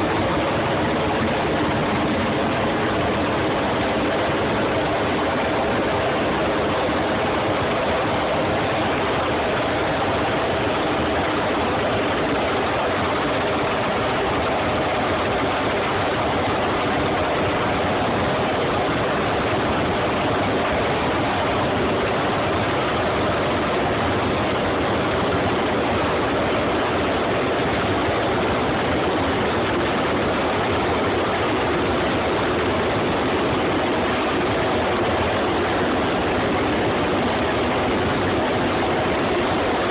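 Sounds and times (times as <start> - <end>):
helicopter hovering overhead: 0.0 - 39.9.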